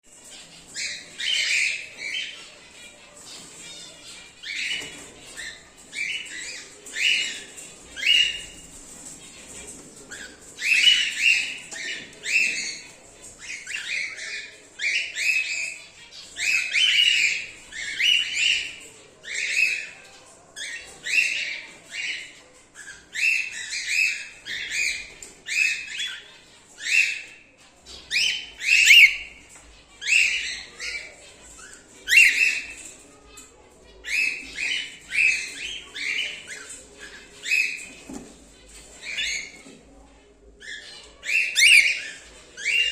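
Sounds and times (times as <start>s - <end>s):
cockatiels calling shrilly: 0.2s - 39.8s, 40.6s - 42.9s.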